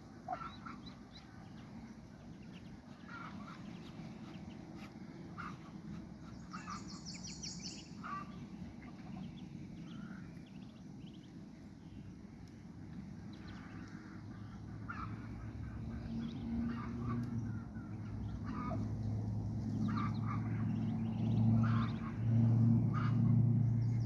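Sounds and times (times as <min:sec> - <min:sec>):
ducks calling: 0:00.2 - 0:10.7, 0:13.4 - 0:23.8.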